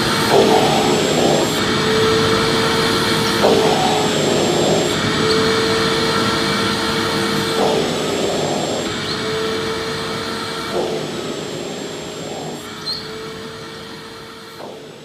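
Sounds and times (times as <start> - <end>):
vacuum cleaner running: 0.0 - 15.0
humming tone: 0.5 - 15.0.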